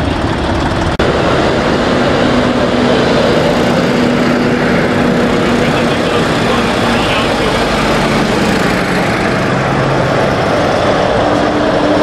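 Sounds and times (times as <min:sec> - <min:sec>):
tractor diesel engines rumbling: 0:00.0 - 0:12.0.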